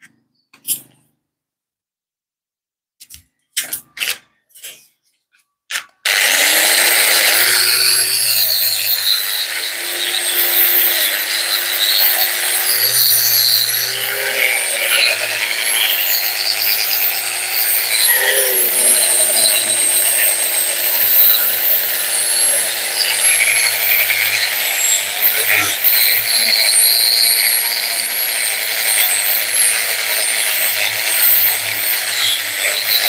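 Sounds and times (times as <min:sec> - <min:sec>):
angle grinder grinding steel spring: 0:06.1 - 0:33.0.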